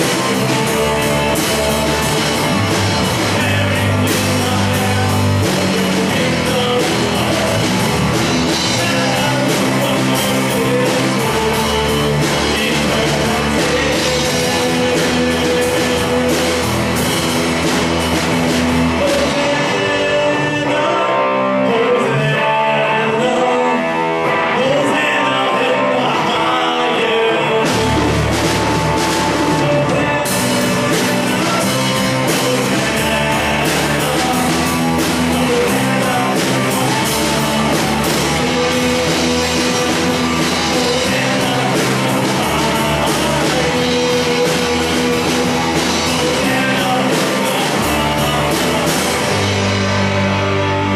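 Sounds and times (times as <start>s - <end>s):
live rock band: 0.0s - 50.9s
person singing: 0.0s - 50.9s.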